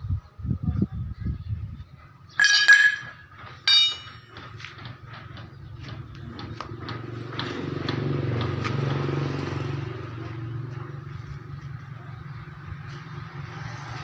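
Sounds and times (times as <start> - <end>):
engine humming: 2.4 - 14.0.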